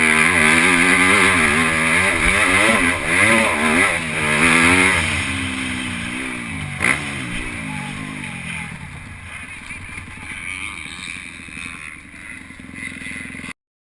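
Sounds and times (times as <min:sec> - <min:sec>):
motocross bike engine revving: 0:00.0 - 0:13.6.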